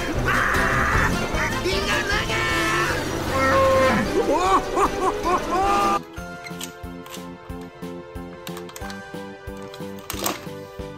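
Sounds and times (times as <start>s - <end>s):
background music with steady beat: 0.0s - 10.9s.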